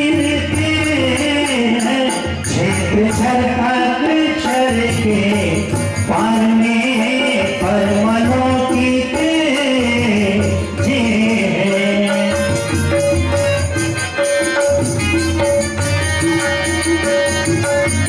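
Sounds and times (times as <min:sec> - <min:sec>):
drum and rattling percussion: 0:00.0 - 0:18.0
man singing devotional song: 0:00.0 - 0:18.0.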